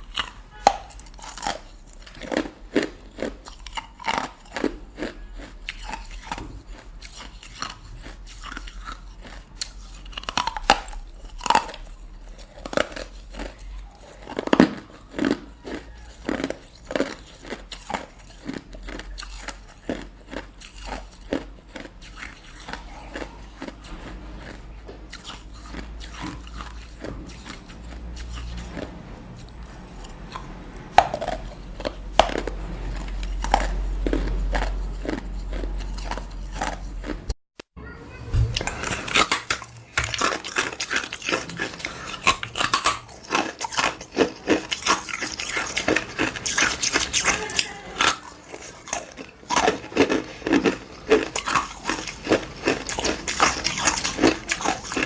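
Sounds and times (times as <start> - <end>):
ice being chewed: 0.0 - 37.4, 38.6 - 55.0.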